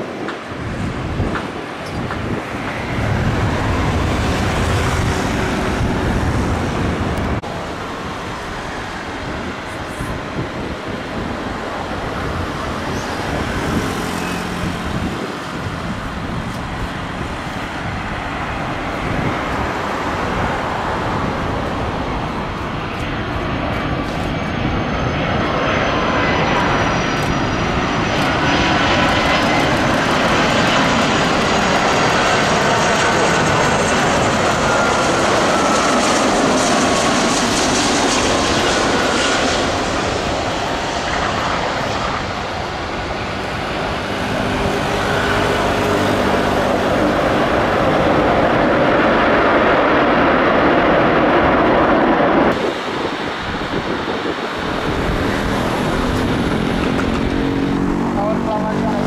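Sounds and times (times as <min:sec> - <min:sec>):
jet airliner engines rumbling: 0:00.0 - 0:59.0
jet engine high whine: 0:00.0 - 0:59.0.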